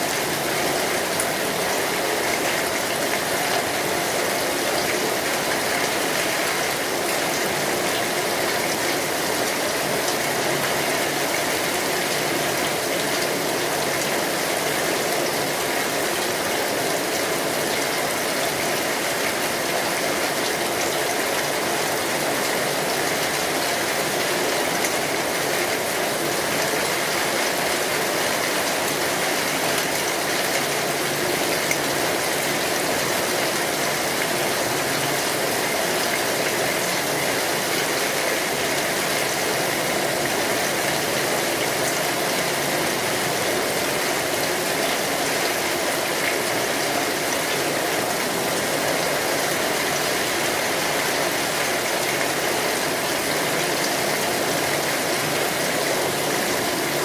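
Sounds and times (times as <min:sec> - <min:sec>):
rain on an umbrella: 0:00.0 - 0:57.0.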